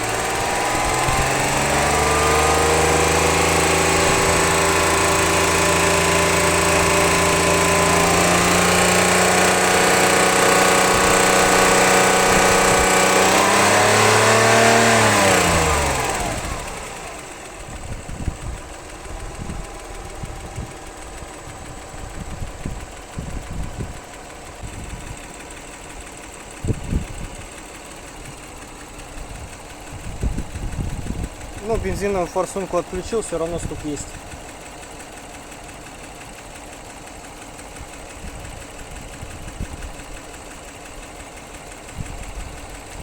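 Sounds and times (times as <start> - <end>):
car engine revving then idling unevenly: 0.0 - 43.0.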